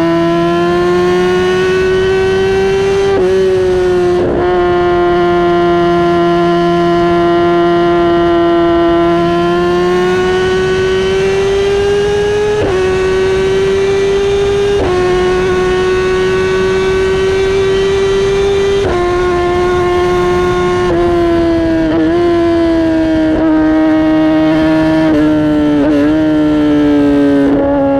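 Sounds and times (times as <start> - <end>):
motorcycle engine at high revs: 0.0 - 27.9.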